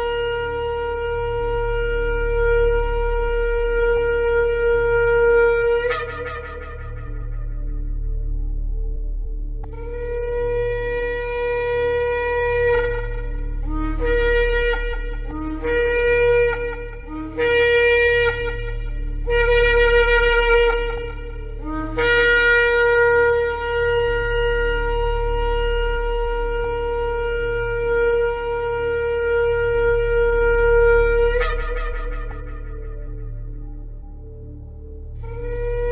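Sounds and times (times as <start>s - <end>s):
low steady hum: 0.0s - 35.9s
shofar blasts: 0.0s - 35.9s.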